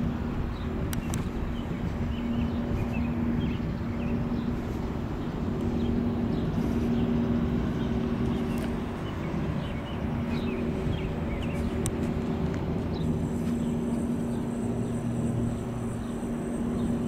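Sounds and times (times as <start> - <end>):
constant rumble: 0.0 - 17.0
steady low hum: 0.0 - 17.0.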